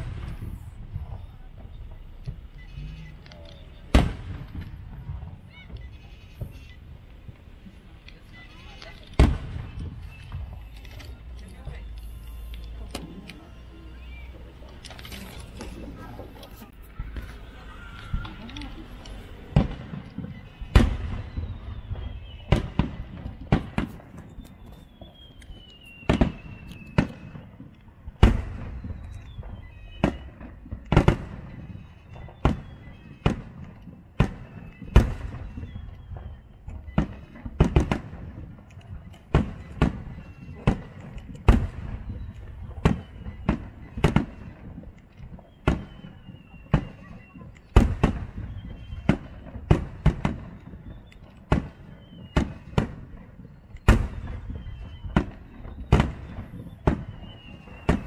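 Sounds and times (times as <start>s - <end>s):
fireworks bursting with sharp bangs: 0.0s - 58.0s
low rumble of fireworks: 0.0s - 58.0s.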